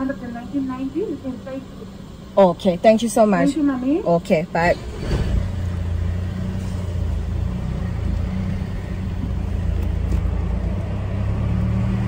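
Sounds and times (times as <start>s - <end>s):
car engine rumble from inside: 0.0s - 12.0s.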